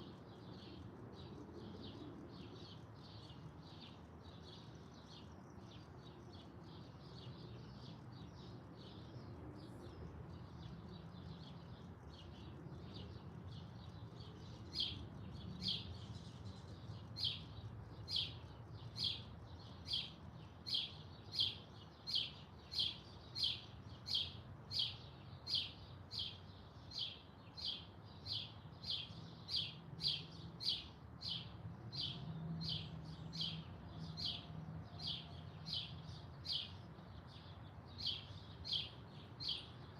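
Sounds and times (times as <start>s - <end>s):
faint busy bird chirps: 0.0s - 39.9s.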